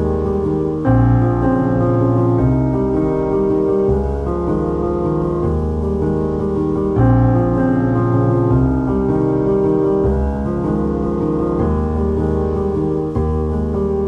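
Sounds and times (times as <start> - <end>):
slow soft piano chords: 0.0 - 14.0.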